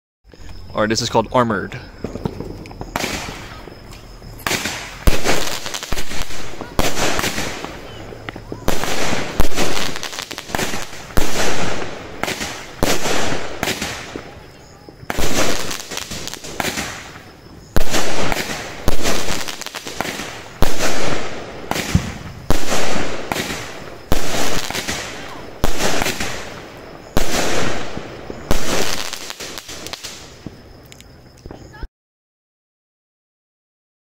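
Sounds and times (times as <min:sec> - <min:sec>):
firework bangs: 0:01.8 - 0:30.8.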